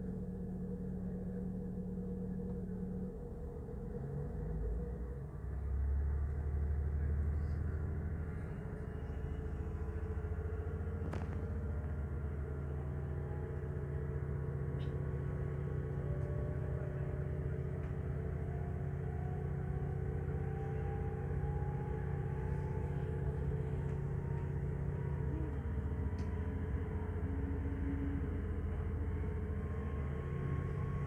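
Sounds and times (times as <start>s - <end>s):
rising whine: 0.0s - 31.0s
train running: 5.7s - 31.0s.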